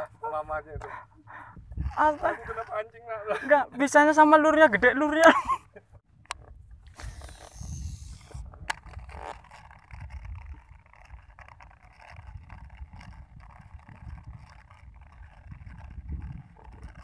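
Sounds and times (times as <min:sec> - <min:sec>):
wind buffeting microphone: 0:00.0 - 0:02.9, 0:06.0 - 0:17.0.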